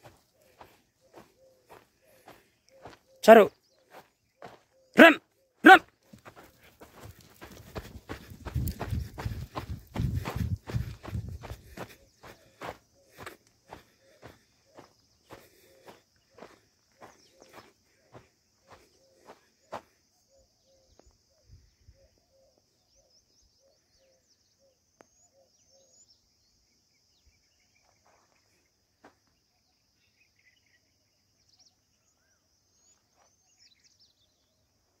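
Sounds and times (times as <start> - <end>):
bird chirps: 0.0 - 28.6
insect drone: 6.6 - 35.0.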